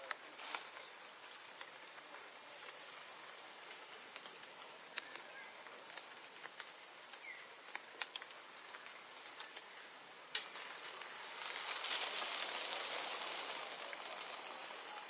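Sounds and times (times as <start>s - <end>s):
rain pattering on leaves: 0.0s - 15.0s
steady high hiss: 0.0s - 15.0s.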